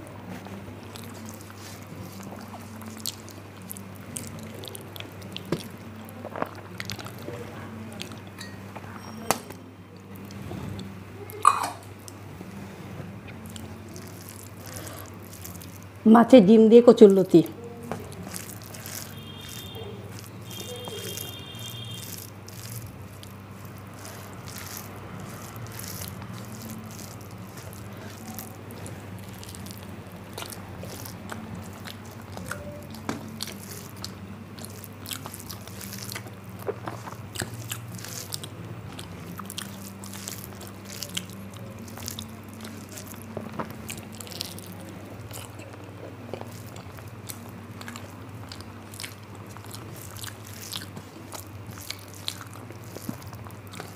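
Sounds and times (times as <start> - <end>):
person chewing food: 0.0 - 8.9, 13.2 - 16.0, 17.5 - 53.9
steady low hum: 0.0 - 53.9.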